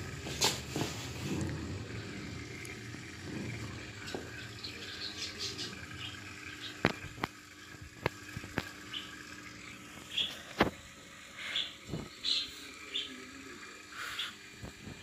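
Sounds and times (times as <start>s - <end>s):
aquarium water trickling: 0.0s - 15.0s.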